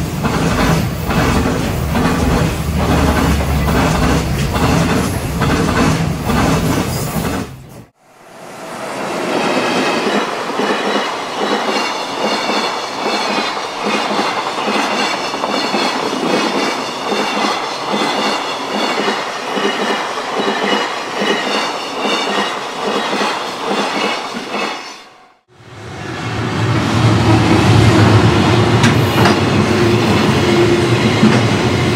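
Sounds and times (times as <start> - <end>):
train wheels clattering: 0.0 - 7.9, 9.5 - 24.8, 28.7 - 31.9.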